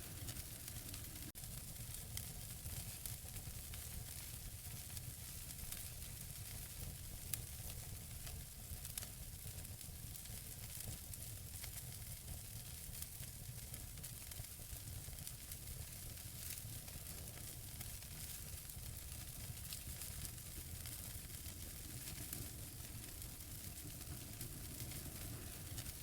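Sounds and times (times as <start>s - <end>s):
wood fire burning in fireplace: 0.0s - 26.0s.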